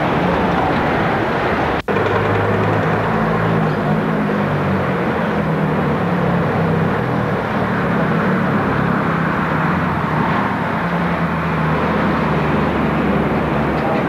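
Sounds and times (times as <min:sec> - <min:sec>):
vehicle engines running: 0:00.0 - 0:14.0.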